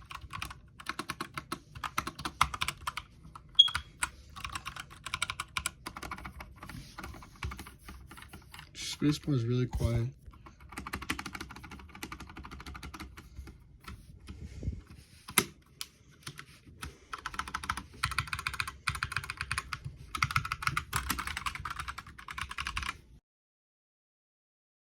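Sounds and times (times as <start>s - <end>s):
mechanical keyboard typing: 0.0s - 9.2s, 10.3s - 14.0s, 15.2s - 23.0s.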